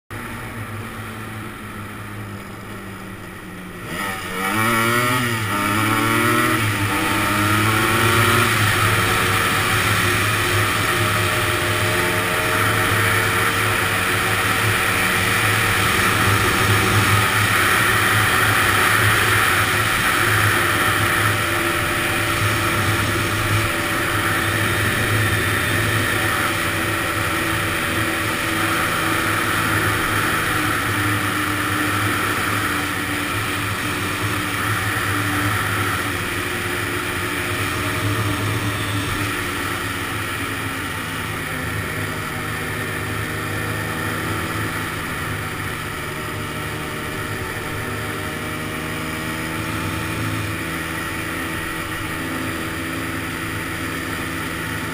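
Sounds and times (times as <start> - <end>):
two-stroke engine revving: 3.2 - 54.9.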